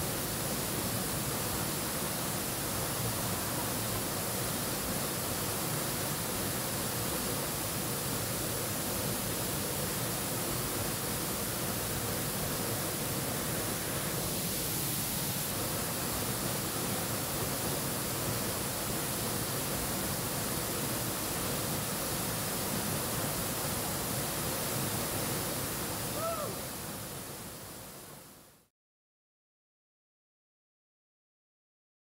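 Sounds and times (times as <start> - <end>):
waterfall roaring: 0.0 - 28.2.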